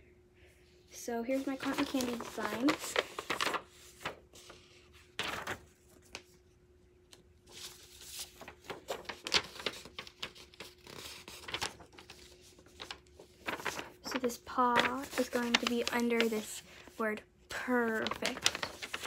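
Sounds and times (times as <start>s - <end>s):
faint steady hum: 0.0s - 19.0s
paper rustling: 1.3s - 6.4s, 7.4s - 19.0s.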